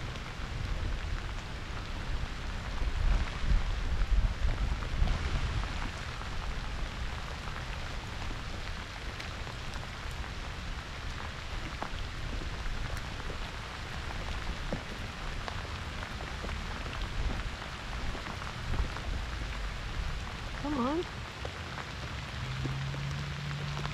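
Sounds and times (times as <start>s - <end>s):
pouring rain: 0.0s - 23.9s.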